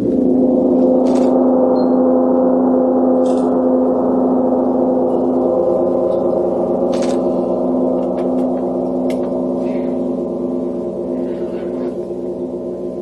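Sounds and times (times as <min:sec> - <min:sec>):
gong ringing: 0:00.0 - 0:13.0.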